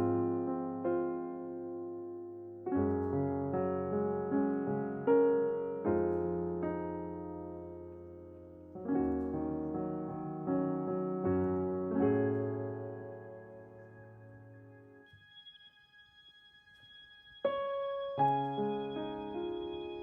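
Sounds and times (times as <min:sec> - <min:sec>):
slow piano chords: 0:00.0 - 0:15.8, 0:16.9 - 0:20.0.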